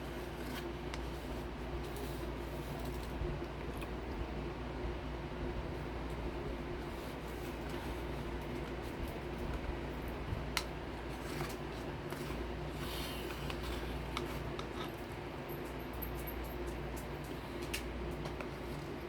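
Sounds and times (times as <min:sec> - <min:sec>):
steady low hum: 0:00.0 - 0:19.0
clicks and rustles of food eaten: 0:00.4 - 0:04.3, 0:06.0 - 0:19.0.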